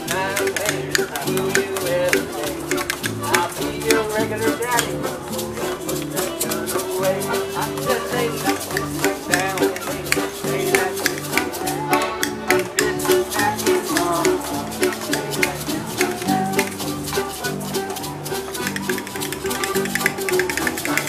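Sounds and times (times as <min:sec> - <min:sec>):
accordion: 0:00.0 - 0:21.0
bass line: 0:00.0 - 0:21.0
steady clicking beat: 0:00.0 - 0:21.0
musical saws gliding in pitch: 0:01.0 - 0:21.0.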